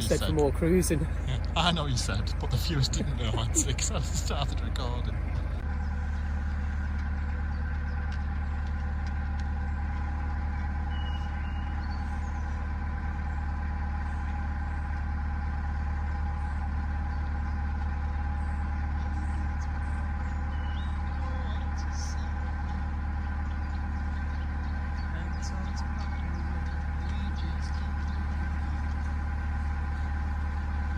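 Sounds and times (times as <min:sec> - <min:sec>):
boat engine humming: 0:00.0 - 0:30.9.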